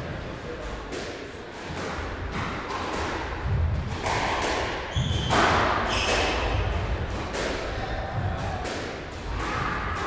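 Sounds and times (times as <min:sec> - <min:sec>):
squash ball hitting racquets and walls: 0:00.5 - 0:10.0.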